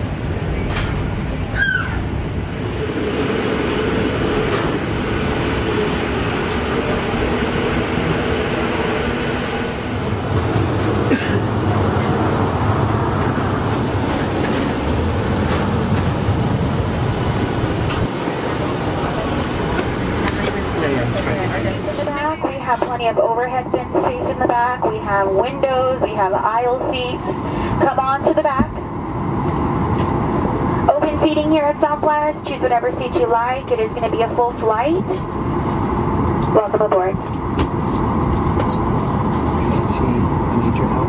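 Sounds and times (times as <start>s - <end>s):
airplane cabin rumble and hiss: 0.0s - 41.0s.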